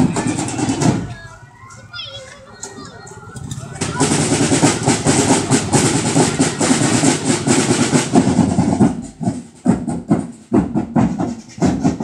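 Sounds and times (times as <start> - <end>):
snare drums beating: 0.0 - 1.2, 3.4 - 12.0
marching band playing: 0.0 - 2.0, 3.1 - 12.0.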